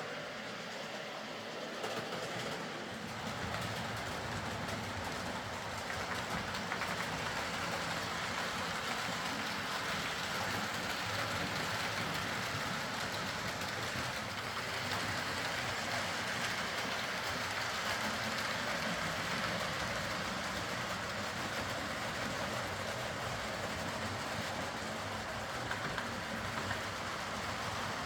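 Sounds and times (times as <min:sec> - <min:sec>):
model train wheels rolling: 0:00.0 - 0:28.0.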